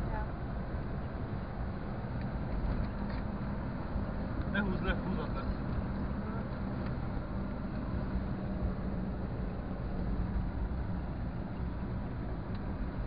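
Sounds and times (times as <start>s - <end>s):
car engine hum: 0.0s - 13.0s
road and tyre noise: 0.0s - 13.0s.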